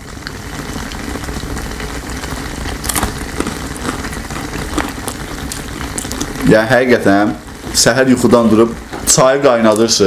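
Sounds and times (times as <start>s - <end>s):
porridge bubbling as it boils: 0.0s - 10.0s.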